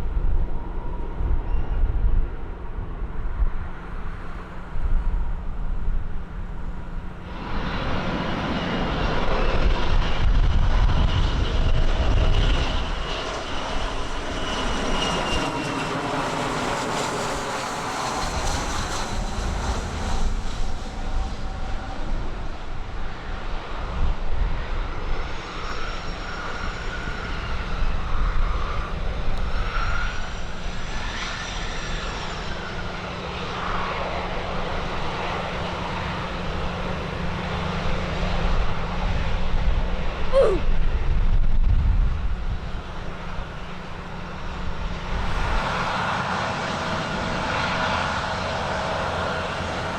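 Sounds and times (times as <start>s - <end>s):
aircraft engines rumbling and whining: 0.0s - 49.9s.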